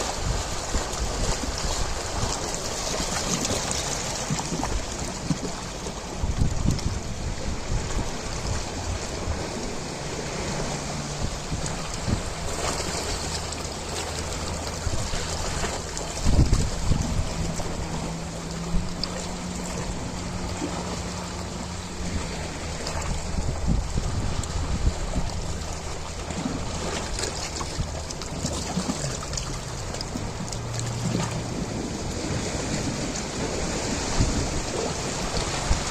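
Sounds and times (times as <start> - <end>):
ocean surf: 0.0 - 35.9.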